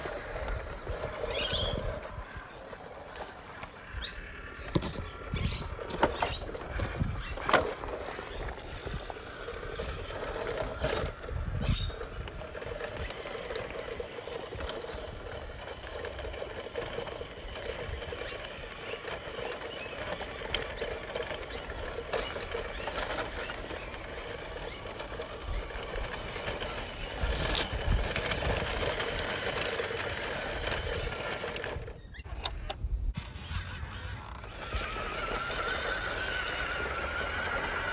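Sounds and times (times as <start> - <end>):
toy truck motor whirring: 0.0 - 37.9.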